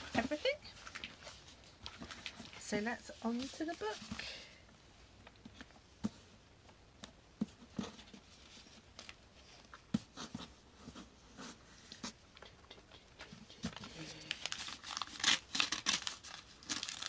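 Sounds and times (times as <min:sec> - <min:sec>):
soft rustling of packaging: 0:00.0 - 0:17.0.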